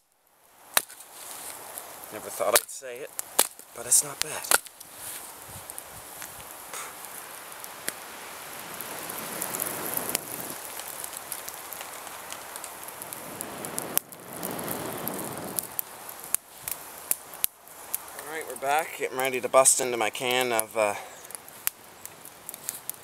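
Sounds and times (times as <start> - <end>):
rain falling: 0.6 - 23.0.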